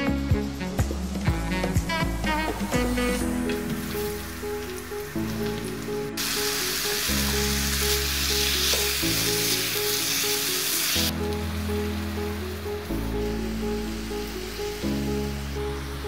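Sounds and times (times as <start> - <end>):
vegetables sizzling in oil: 0.5 - 16.0.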